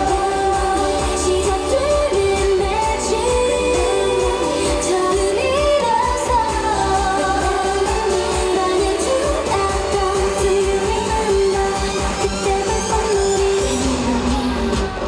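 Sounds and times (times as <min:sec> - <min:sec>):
pop song with female vocals: 0:00.0 - 0:15.0
pulsing bass beat: 0:00.0 - 0:15.0.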